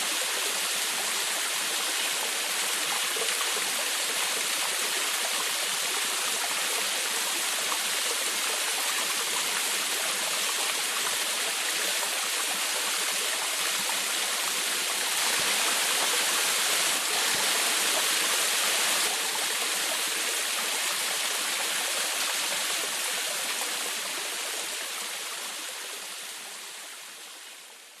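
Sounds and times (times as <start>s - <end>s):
small waterfall splashing: 0.0s - 28.0s.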